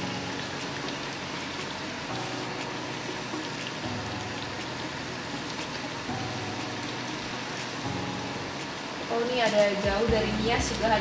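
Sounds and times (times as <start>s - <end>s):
faint background music: 0.0s - 11.0s
food deep-frying in hot oil: 0.0s - 11.0s.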